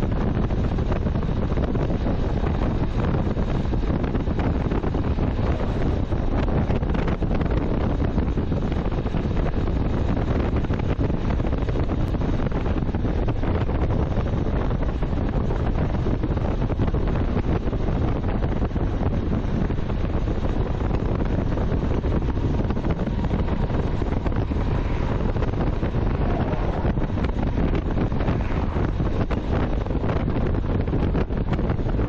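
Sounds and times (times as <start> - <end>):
motorcycle engine and road noise: 0.0 - 32.0
wind buffeting microphone: 0.0 - 32.0.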